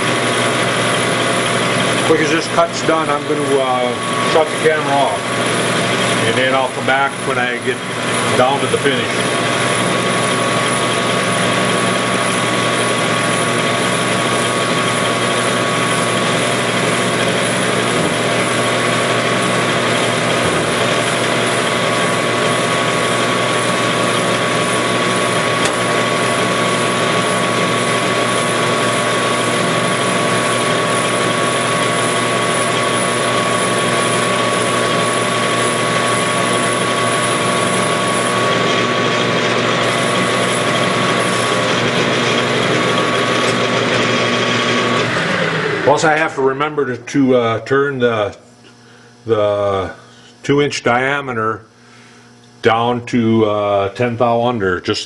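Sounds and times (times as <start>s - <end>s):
metal lathe whine: 0.0s - 50.7s.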